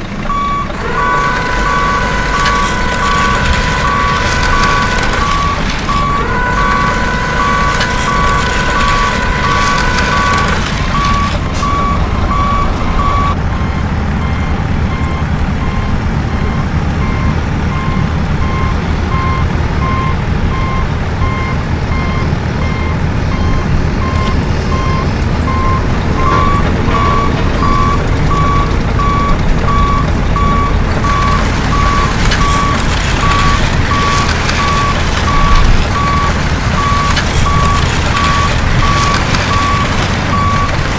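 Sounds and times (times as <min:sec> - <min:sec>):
low engine rumble: 0:00.0 - 0:40.9
truck reversing alarm beeping: 0:00.0 - 0:40.9.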